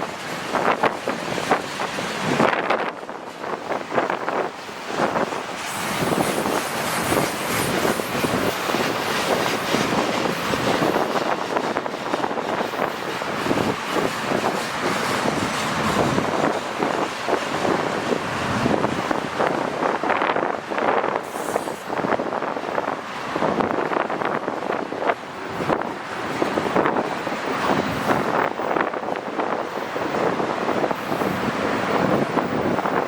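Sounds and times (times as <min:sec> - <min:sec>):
train wheels clicking over rails: 0:00.0 - 0:32.4.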